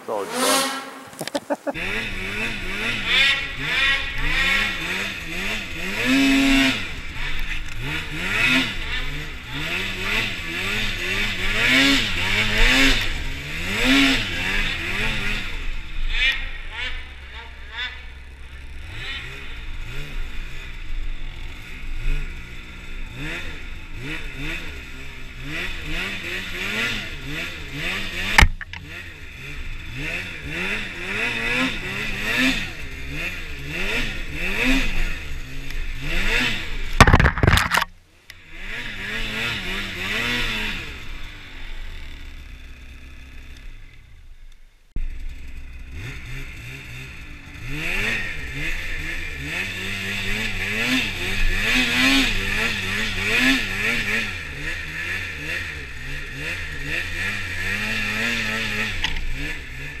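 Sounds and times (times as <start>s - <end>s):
snowmobile engine revving: 0.0s - 44.0s, 45.0s - 60.0s.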